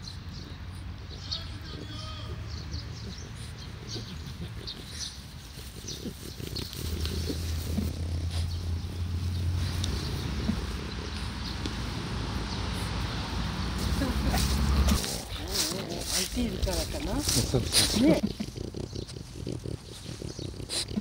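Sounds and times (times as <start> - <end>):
dog sniffing through grass: 1.6 - 21.0.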